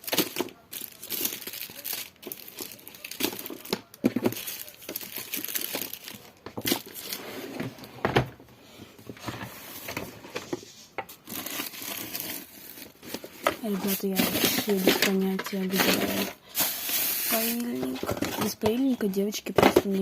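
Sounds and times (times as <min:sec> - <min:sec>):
rustling of things in drawers: 0:00.0 - 0:20.0.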